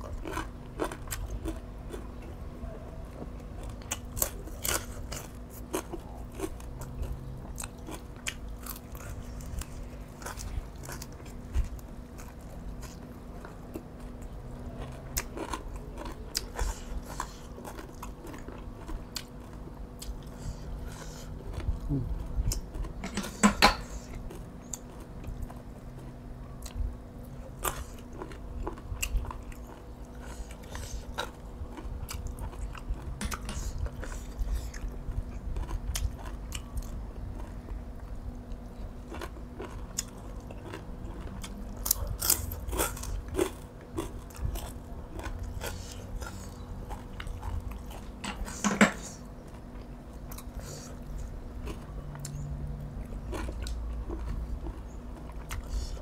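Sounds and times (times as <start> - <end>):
person chewing and crunching: 0.0 - 56.0.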